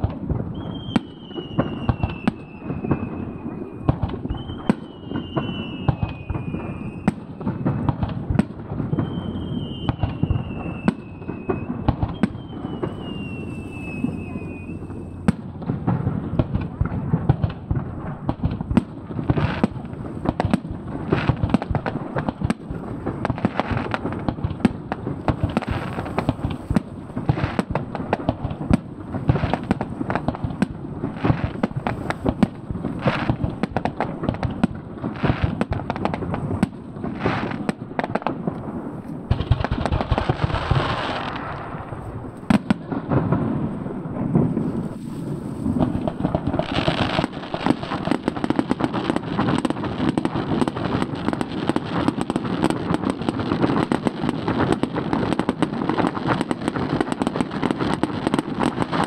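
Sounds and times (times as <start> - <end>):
dense fireworks hissing: 0.0 - 59.0
fireworks bangs and pops: 0.0 - 59.0.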